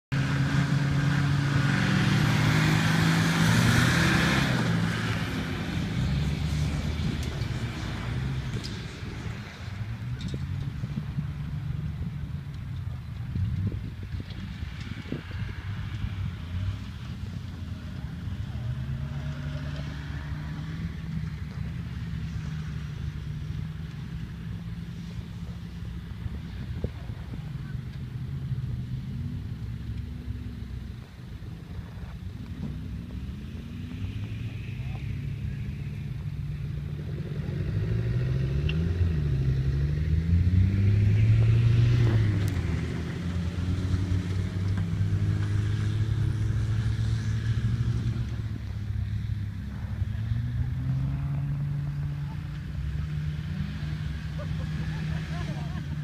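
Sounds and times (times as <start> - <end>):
vehicle engine driving off: 0.1 - 56.0.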